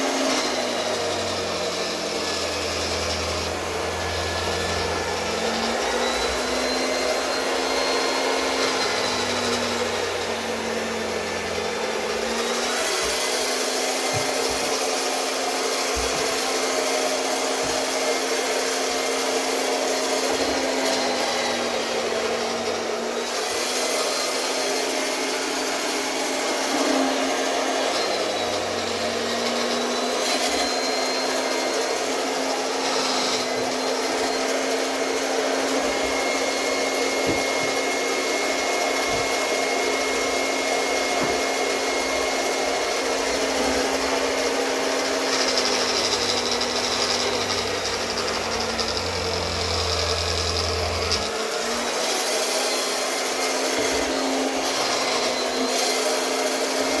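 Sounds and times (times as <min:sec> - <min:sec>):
electric cloth cutting machine: 0:00.0 - 0:57.0.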